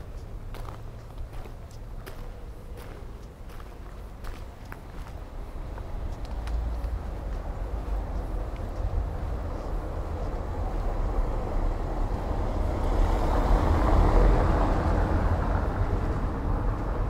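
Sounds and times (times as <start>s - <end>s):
steady low rumble: 0.0s - 17.0s
vehicle passing by: 0.0s - 17.0s.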